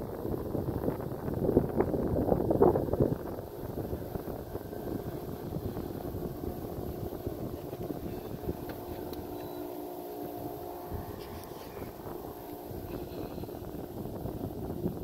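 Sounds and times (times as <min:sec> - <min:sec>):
wind rumble on microphone: 0:00.0 - 0:15.0
electric motor humming: 0:00.3 - 0:15.0.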